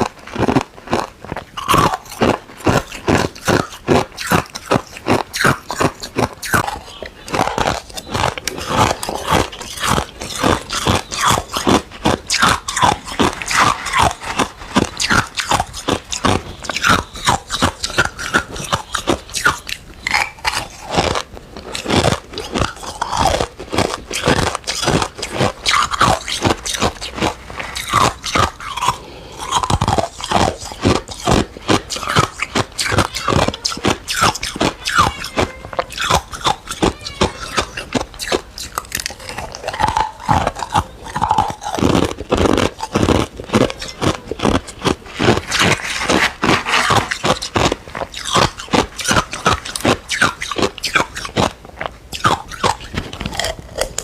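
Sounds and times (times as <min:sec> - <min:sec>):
ice cubes being crunched: 0:00.0 - 0:54.0.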